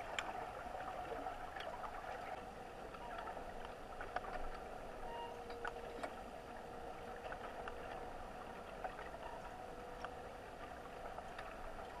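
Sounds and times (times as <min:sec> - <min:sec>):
steady underwater hum: 0:00.0 - 0:12.0.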